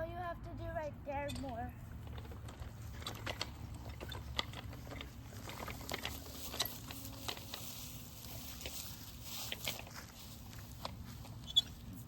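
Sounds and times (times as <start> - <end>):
bicycle rattling over grass: 1.2 - 12.0.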